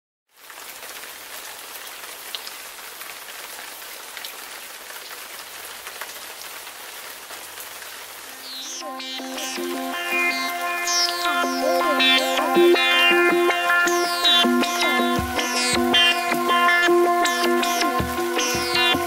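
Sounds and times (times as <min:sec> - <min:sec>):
rain hissing: 0:00.4 - 0:19.0.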